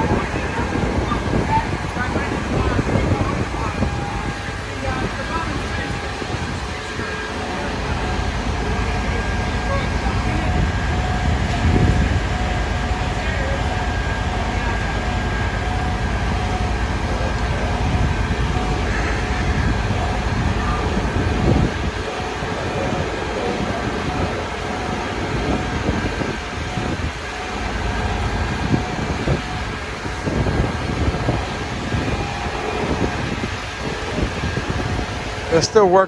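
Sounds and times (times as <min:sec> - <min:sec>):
engines and street traffic rumble: 0:00.0 - 0:36.0
wind buffeting microphone: 0:00.0 - 0:36.0.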